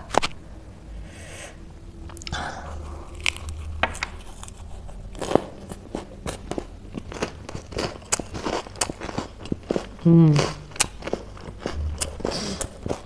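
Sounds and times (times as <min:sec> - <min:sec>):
crunchy chewing: 0:02.1 - 0:13.0.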